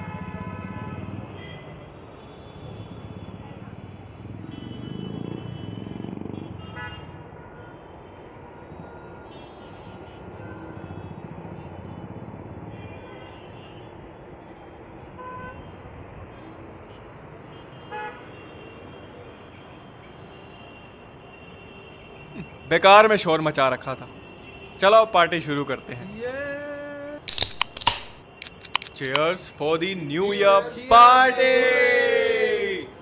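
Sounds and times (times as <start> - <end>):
city street traffic: 0.0 - 33.0.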